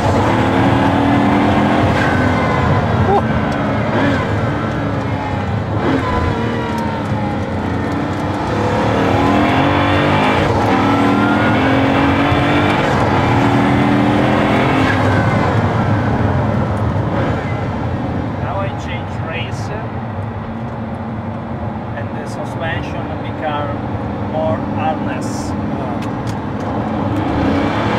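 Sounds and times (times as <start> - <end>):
car engine from inside cabin: 0.0 - 27.9.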